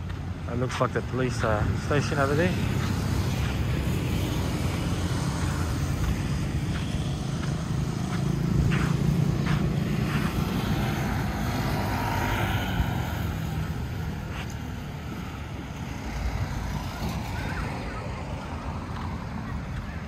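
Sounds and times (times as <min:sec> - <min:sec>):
cars and motorbikes passing: 0:00.0 - 0:20.0.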